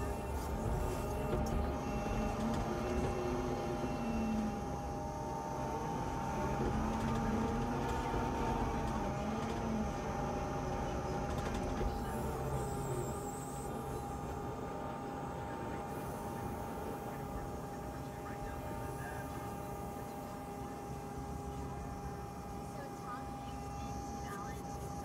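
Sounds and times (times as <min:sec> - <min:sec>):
diesel engine under load: 0:00.0 - 0:25.0
steady whine: 0:00.0 - 0:25.0.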